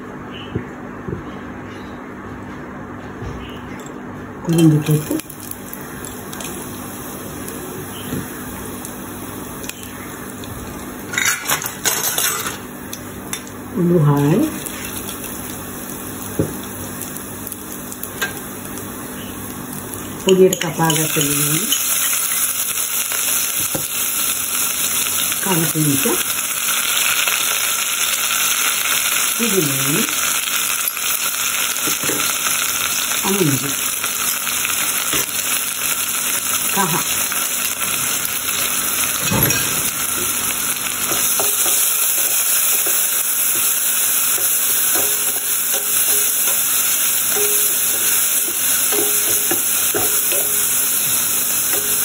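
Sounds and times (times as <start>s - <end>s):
onions sizzling in oil: 4.5s - 52.0s.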